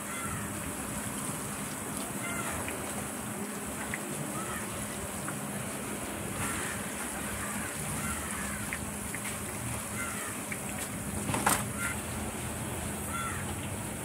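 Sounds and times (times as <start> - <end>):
deep-frying sizzle and bubbling: 0.0 - 14.0.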